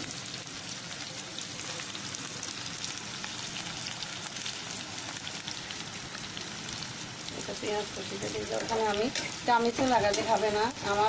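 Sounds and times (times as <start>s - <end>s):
onion sizzling in a pan: 0.0s - 11.0s.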